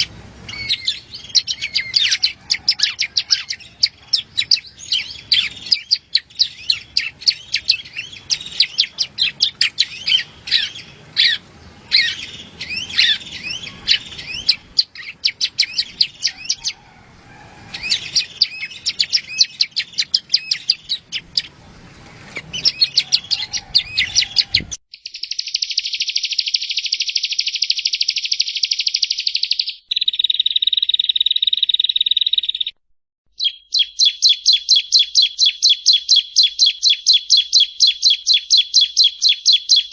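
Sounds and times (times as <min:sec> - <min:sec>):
bird buzzy trills: 0:00.0 - 0:32.8
bird chirping phrases: 0:00.0 - 0:39.9.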